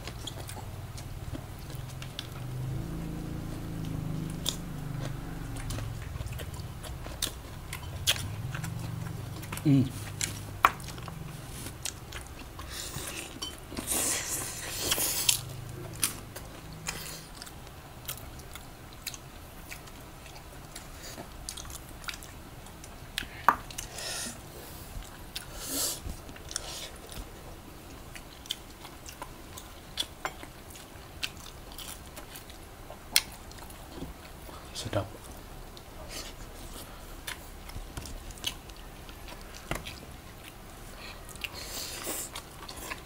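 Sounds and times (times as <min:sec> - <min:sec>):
wet chewing and biting: 0:00.0 - 0:23.9, 0:26.1 - 0:34.5, 0:35.2 - 0:43.0.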